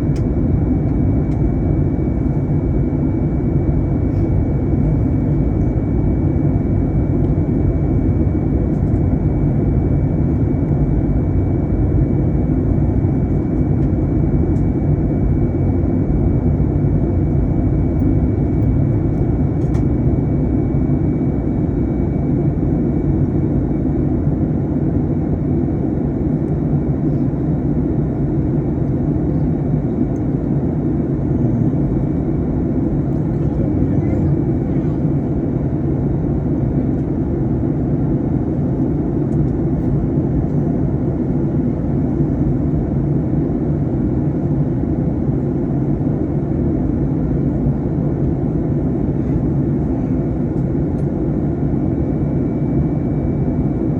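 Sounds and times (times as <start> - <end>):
rumble of engines and airflow: 0.0 - 53.9.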